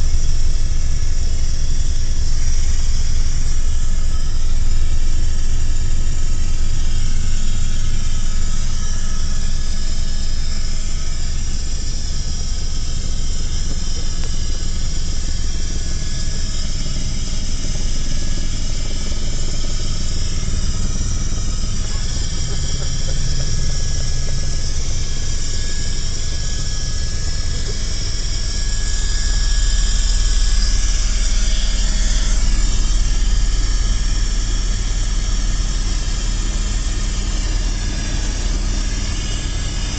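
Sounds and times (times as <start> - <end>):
helicopter rotor and engine drone: 0.0 - 39.9
high turbine whine: 0.0 - 39.9.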